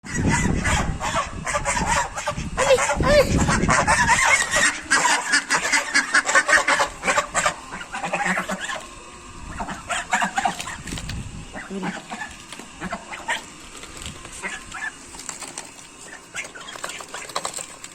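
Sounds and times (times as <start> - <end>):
ducks quacking: 0.0 - 13.6, 14.3 - 15.3, 16.0 - 17.6.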